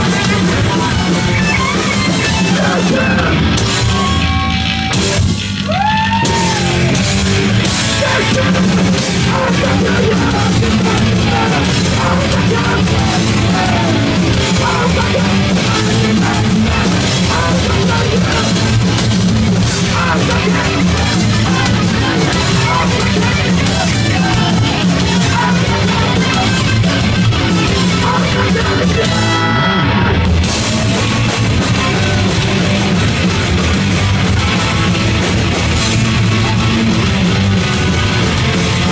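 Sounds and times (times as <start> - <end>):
bass guitar: 0.0 - 38.9
distorted electric guitars: 0.0 - 38.9
pounding drum kit: 0.0 - 38.9.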